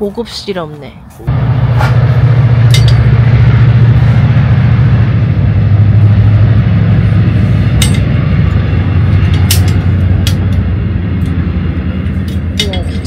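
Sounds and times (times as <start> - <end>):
passing train rumble: 0.0 - 13.0.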